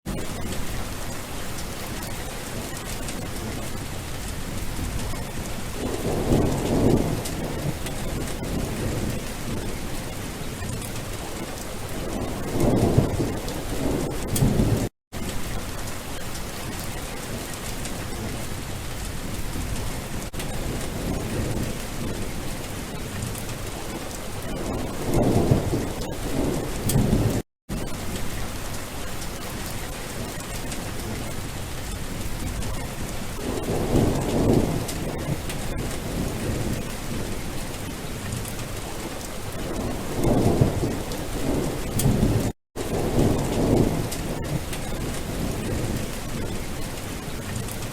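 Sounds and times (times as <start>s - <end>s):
heavy rain: 0.1s - 47.9s
low rolls of thunder: 2.0s - 15.8s, 17.6s - 28.7s, 30.2s - 47.8s.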